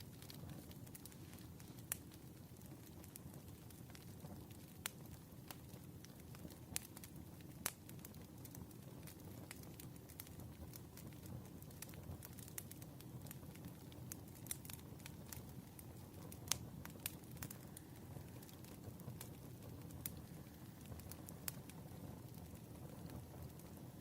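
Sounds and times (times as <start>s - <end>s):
logs crackling and popping: 0.0s - 24.0s
wood fire rumbling: 0.0s - 24.0s.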